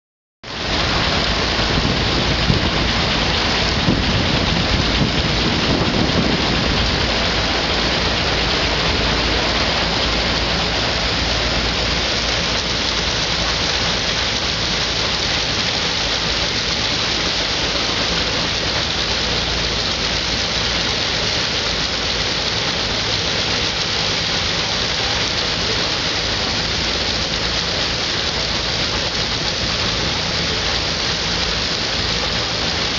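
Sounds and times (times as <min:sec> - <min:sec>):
threshing machine running: 0:00.5 - 0:32.9.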